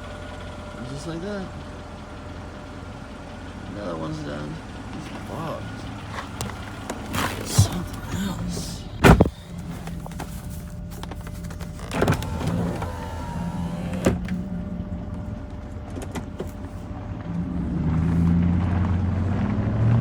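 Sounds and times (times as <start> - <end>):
pickup engine running: 0.0 - 20.0.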